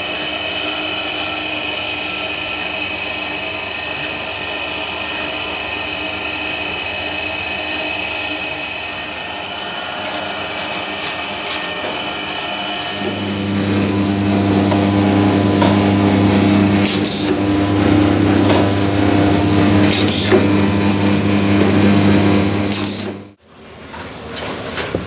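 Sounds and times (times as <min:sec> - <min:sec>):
electric motor humming: 0:00.6 - 0:23.4.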